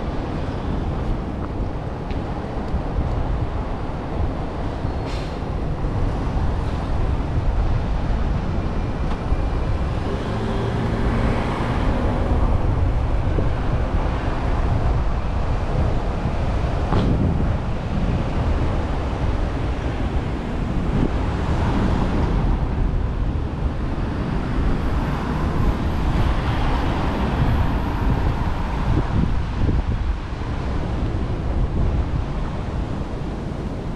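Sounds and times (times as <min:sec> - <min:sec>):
road traffic rumble: 0:00.0 - 0:33.9.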